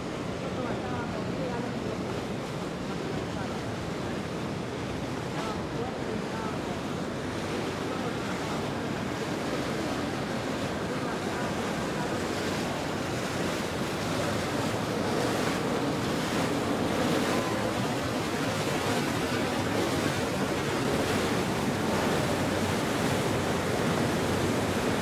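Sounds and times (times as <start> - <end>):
boat hull and bow wave water: 0.0 - 25.0.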